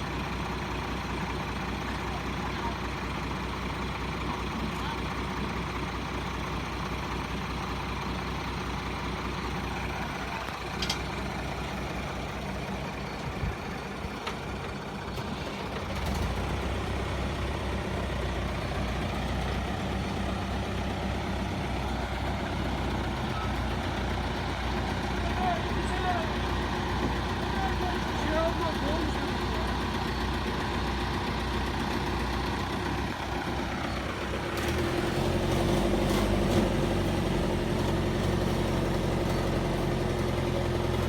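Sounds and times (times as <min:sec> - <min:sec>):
heavy truck engine under load: 0:00.0 - 0:41.0.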